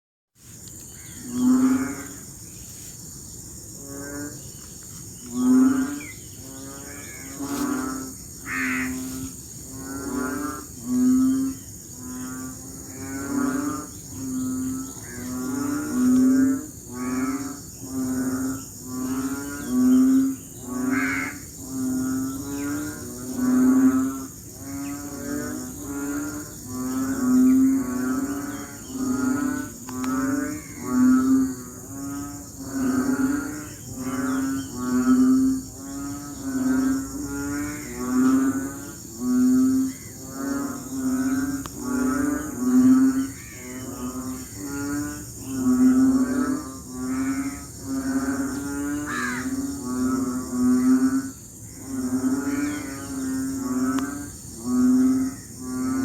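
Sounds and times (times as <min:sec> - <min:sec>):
frogs giving deep lowing calls: 0:00.5 - 0:56.0.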